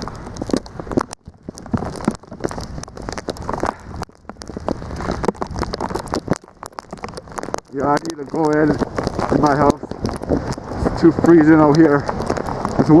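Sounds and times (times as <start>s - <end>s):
blizzard wind rushing: 0.0s - 13.0s
snow crackling on microphone: 0.0s - 13.0s.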